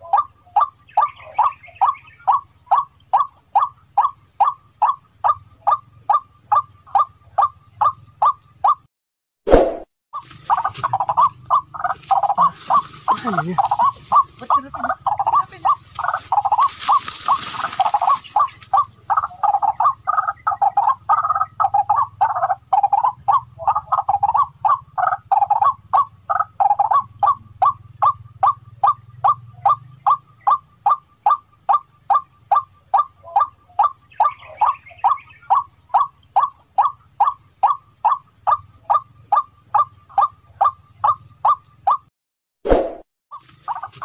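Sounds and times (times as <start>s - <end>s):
bird croaking call: 0.0s - 8.9s, 10.2s - 42.1s.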